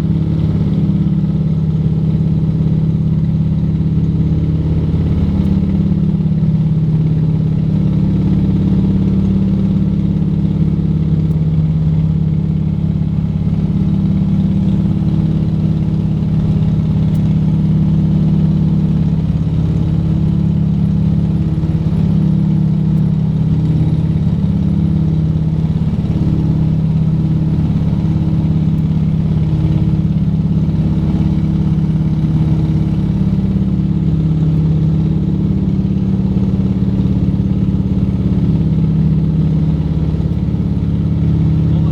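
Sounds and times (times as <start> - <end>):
aircraft propeller engines droning: 0.0 - 41.9.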